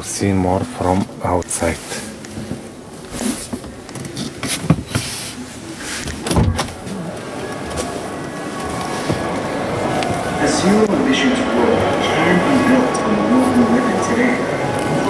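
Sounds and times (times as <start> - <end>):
exhibition hall background noise: 0.0 - 15.0.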